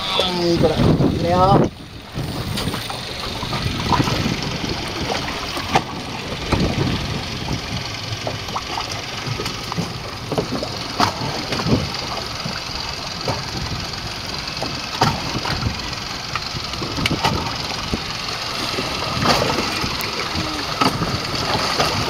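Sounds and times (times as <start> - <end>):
outboard motor idling: 0.0 - 22.0
water noise: 0.0 - 22.0
wind: 0.0 - 22.0.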